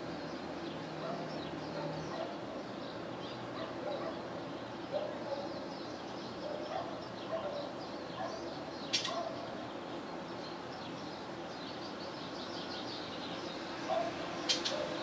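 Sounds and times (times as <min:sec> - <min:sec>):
small songbirds chirping: 0:00.0 - 0:15.0.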